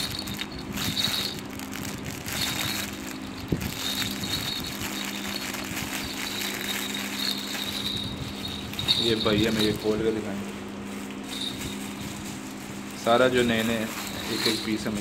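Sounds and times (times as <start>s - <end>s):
baby rattle beads rattling: 0.0s - 10.4s, 11.2s - 15.0s
plastic packaging crinkling: 0.0s - 15.0s
steady low hum: 0.0s - 15.0s.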